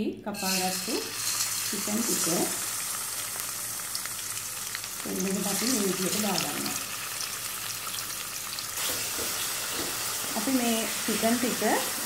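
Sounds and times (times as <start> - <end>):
chicken sizzling in a wok: 0.4 - 12.0.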